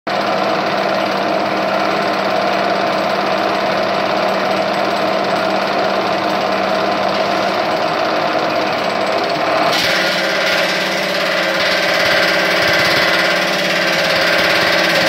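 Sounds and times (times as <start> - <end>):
power hammer hammering: 0.3 - 15.0.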